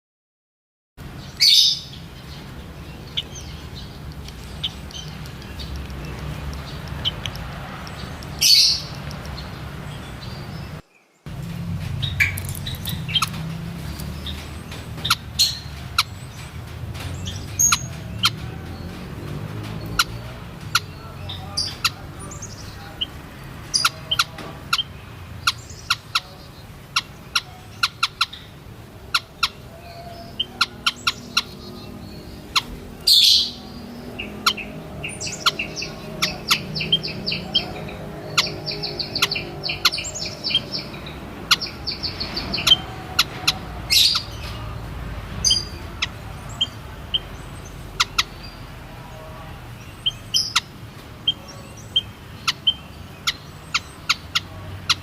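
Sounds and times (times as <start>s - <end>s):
bird chirping high-pitched: 1.2s - 10.8s, 12.0s - 44.8s, 45.4s - 48.8s, 49.8s - 55.0s.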